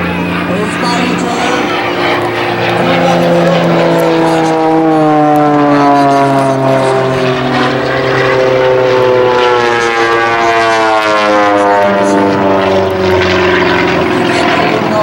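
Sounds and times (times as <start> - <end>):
propeller airplanes passing overhead: 0.0 - 15.0.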